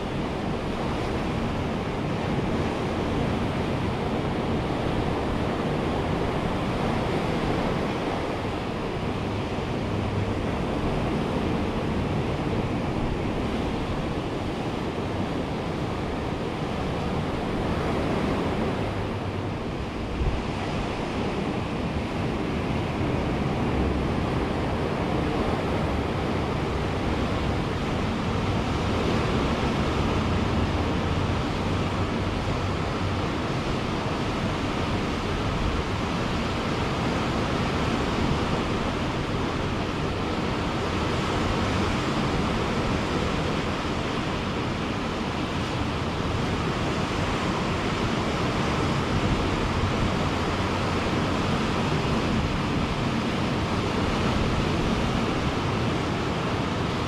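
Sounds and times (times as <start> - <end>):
ocean surf on beach: 0.0 - 57.0
wind on microphone: 0.0 - 57.0.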